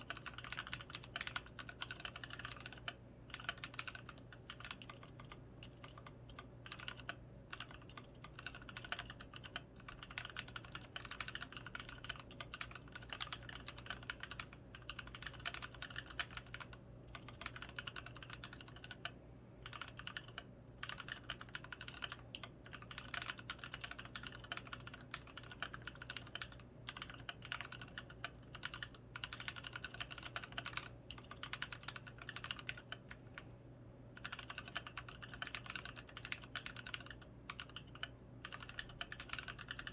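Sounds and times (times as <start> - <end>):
mechanical keyboard typing: 0.0 - 33.4, 34.1 - 39.9.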